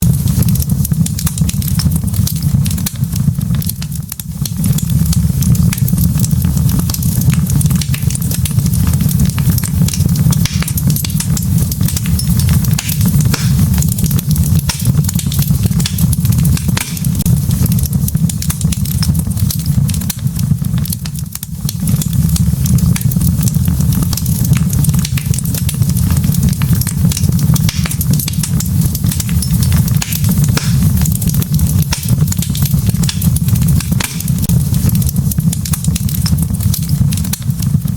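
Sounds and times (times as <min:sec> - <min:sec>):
low rumble of flames: 0:00.0 - 0:37.9
wood fire crackling: 0:00.0 - 0:37.9.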